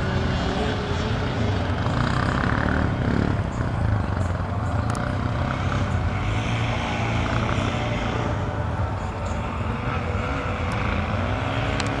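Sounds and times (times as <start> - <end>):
distant quad bike engines droning: 0.0 - 12.0.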